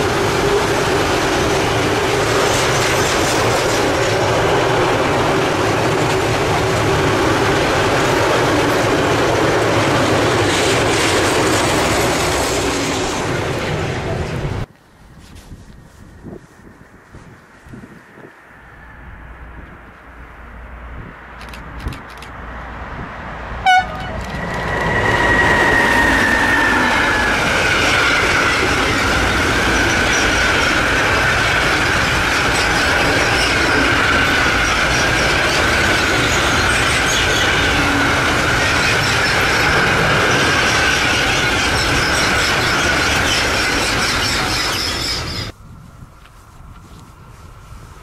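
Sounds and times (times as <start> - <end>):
train wheels rumbling on rail: 0.0 - 14.7, 21.0 - 45.6
high train whine: 0.0 - 48.0.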